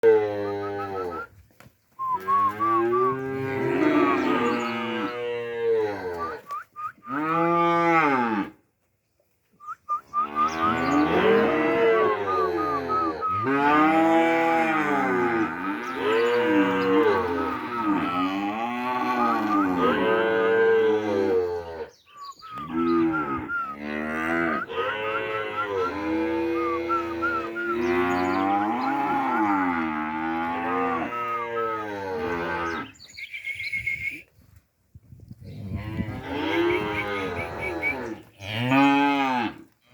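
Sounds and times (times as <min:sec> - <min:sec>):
calves mooing and bawling: 0:00.0 - 0:01.3, 0:02.0 - 0:08.6, 0:10.1 - 0:33.0, 0:35.6 - 0:39.7.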